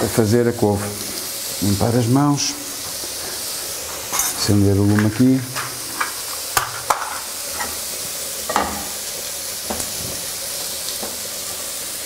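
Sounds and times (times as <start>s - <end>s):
burgers sizzling on grill pan: 0.0s - 12.0s.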